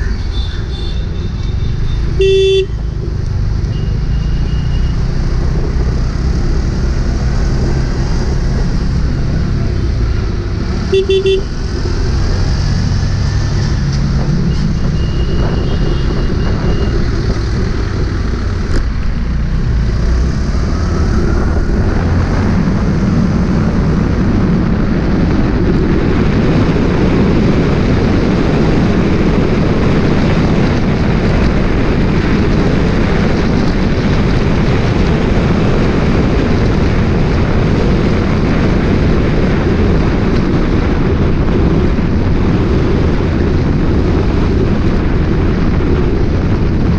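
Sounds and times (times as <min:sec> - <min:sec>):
vehicle engine and road noise: 0:00.0 - 0:46.9
wind rushing over microphone: 0:00.0 - 0:46.9.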